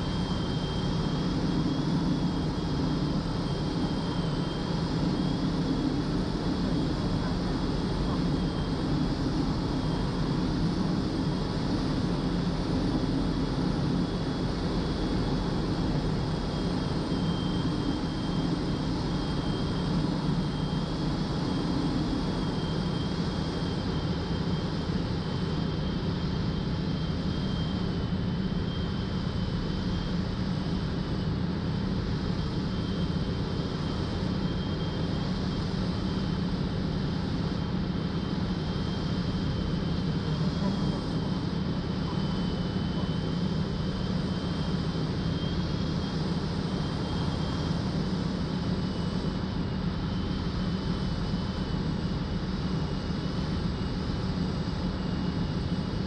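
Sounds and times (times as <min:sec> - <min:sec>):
aircraft engine and propeller: 0:00.0 - 0:56.0.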